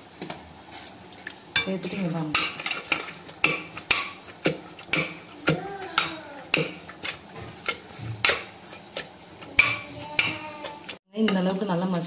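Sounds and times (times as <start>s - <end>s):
metal utensil knocking steel pot: 1.6s - 11.4s.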